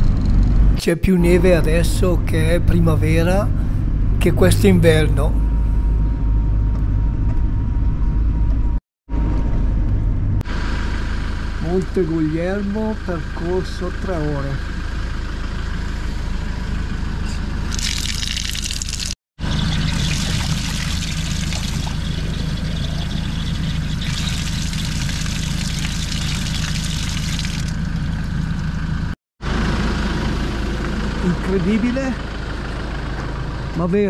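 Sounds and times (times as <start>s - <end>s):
engine low drone: 0.0s - 34.0s.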